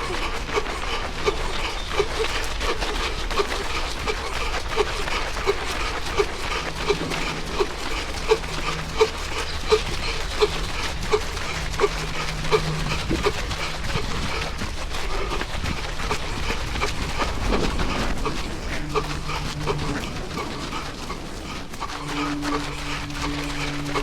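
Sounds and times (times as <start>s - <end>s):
heavy wheezing breathing: 0.0s - 24.0s
wind rumble: 0.0s - 24.0s.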